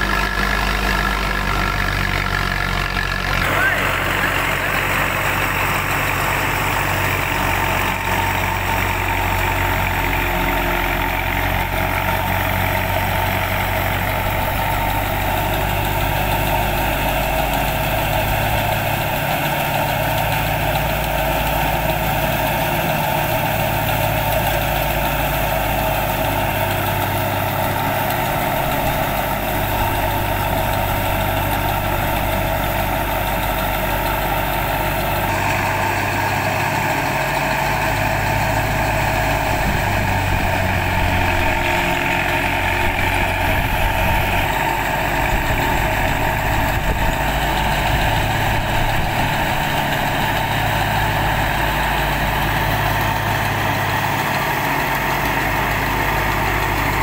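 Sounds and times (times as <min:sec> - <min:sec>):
tractor engine and thresher drone: 0:00.0 - 0:57.0.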